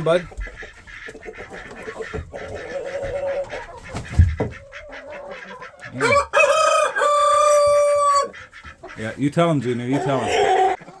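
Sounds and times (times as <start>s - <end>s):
chickens and ducks clucking: 0.0s - 11.0s.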